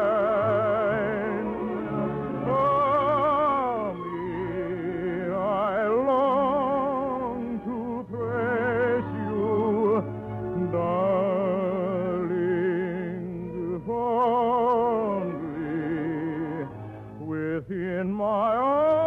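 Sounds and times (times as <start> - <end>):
orchestra playing: 0.0 - 17.4
soprano singing: 0.0 - 19.0.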